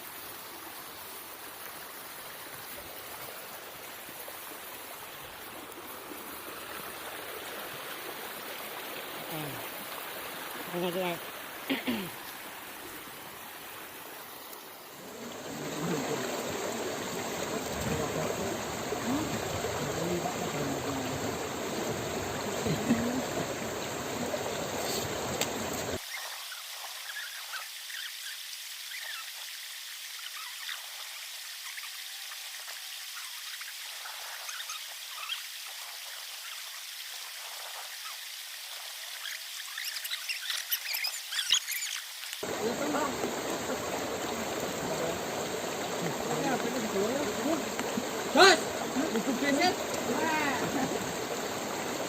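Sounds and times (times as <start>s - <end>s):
water running in a stream: 0.0s - 52.0s.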